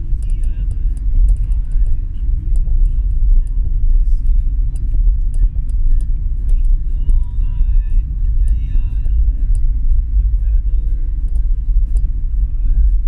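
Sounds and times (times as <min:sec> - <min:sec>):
sharp ticks: 0:00.0 - 0:13.0
vehicle rumbling on wet road: 0:00.0 - 0:13.0.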